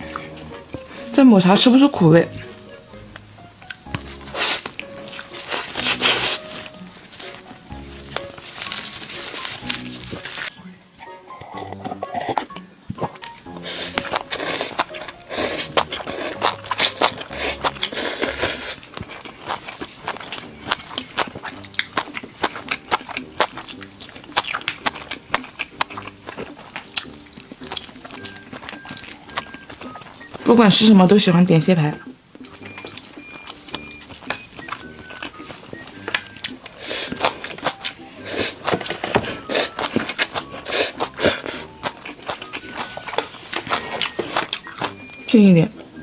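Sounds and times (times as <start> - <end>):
chewing noodles: 0.0 - 46.0.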